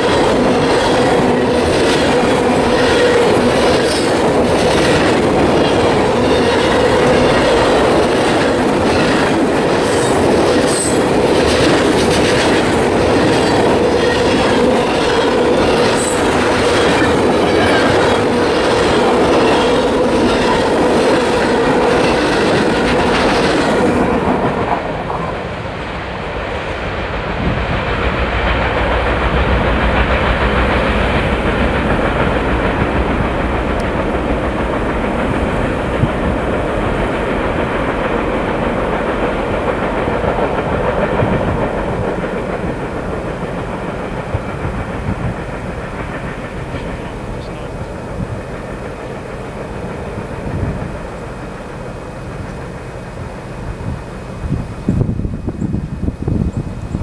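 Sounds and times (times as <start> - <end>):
wheels clacking over rail joints: 0.0 - 25.4, 27.3 - 53.6
freight train wheel rumble: 0.0 - 57.0.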